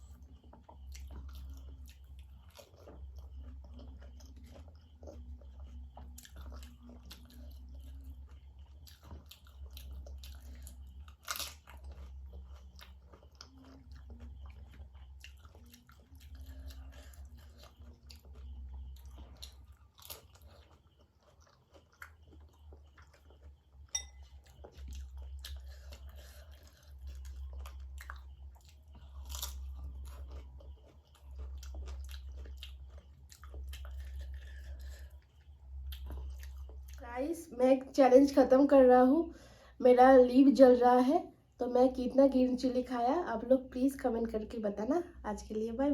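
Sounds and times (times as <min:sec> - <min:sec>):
crunching crisp food: 0:00.0 - 0:37.2
wet chewing: 0:00.0 - 0:37.2.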